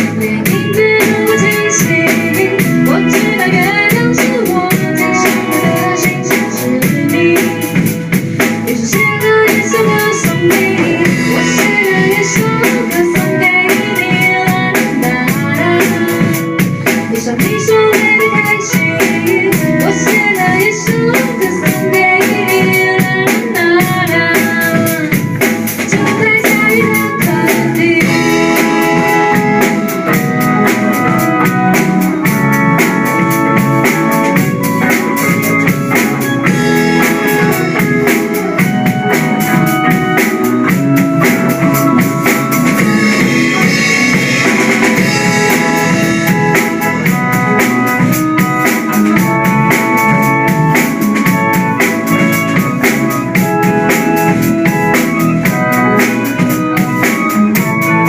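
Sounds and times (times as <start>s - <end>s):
band playing pop instrumental: 0.0s - 58.0s
drum kit beat: 0.0s - 58.0s.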